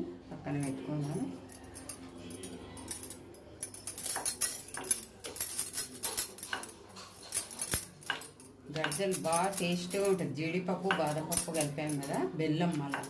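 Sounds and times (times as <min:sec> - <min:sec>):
bangles clinking: 0:00.5 - 0:13.0.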